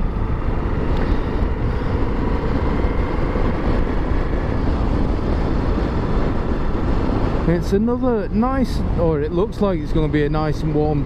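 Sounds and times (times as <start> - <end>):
motorcycle engine and tyre noise: 0.0 - 11.0
wind rush on microphone: 0.0 - 11.0.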